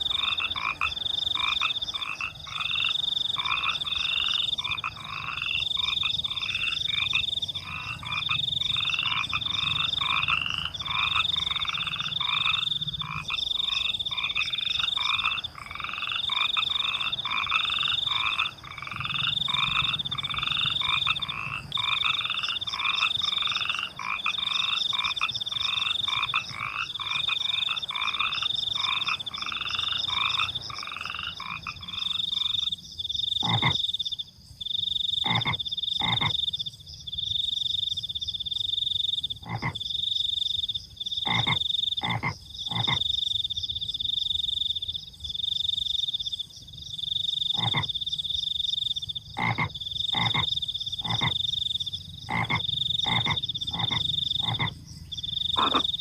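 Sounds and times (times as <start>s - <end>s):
crickets trilling: 0.0s - 56.0s
frogs croaking: 0.0s - 56.0s.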